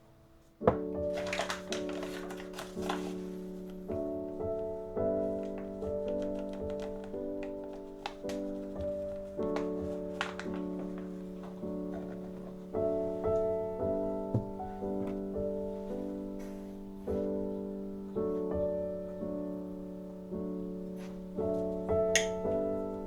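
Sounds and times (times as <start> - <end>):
soft piano chords: 0.0 - 23.0.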